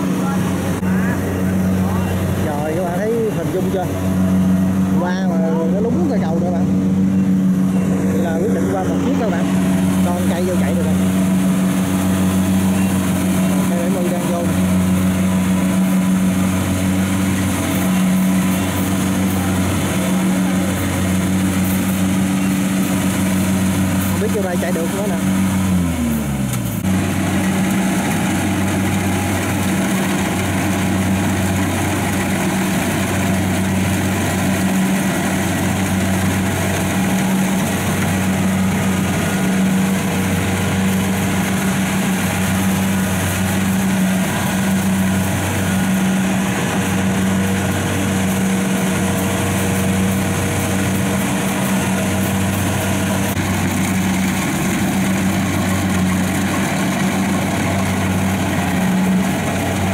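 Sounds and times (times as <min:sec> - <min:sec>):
harvester diesel engine pulsing hum: 0:00.0 - 0:59.9
machinery noise: 0:00.0 - 0:59.9.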